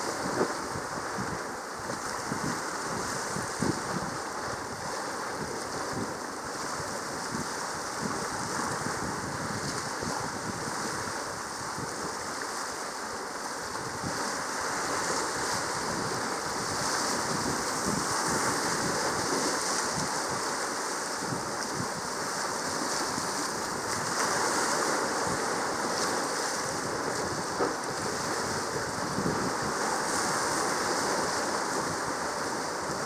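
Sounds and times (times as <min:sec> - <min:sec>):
sea waves rushing: 0:00.0 - 0:33.0.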